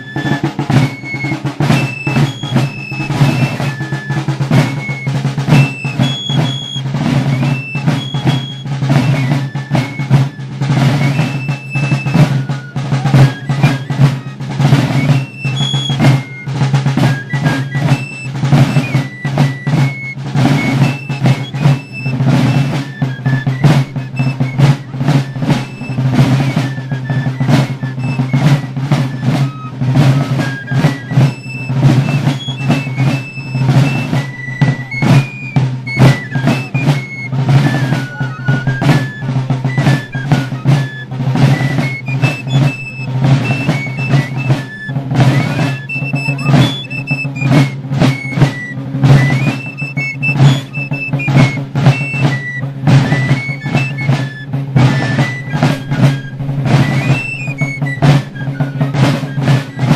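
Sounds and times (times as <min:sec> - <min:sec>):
fifes playing high melody: 0:00.0 - 0:59.9
side drums beating: 0:00.0 - 0:59.9.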